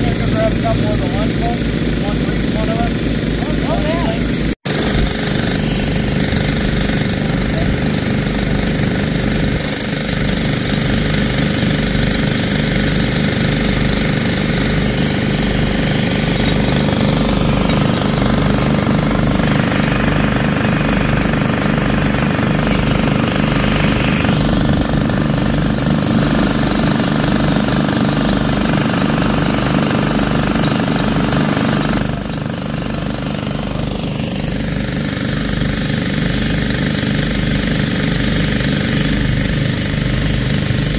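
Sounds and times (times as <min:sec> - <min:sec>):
small engine chugging: 0:00.0 - 0:40.9.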